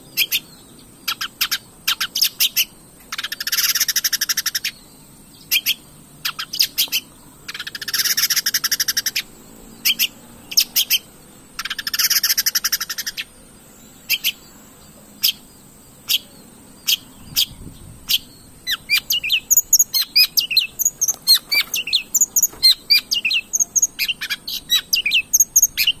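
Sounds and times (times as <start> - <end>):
bird song with harsh rattles: 0.0 - 26.0.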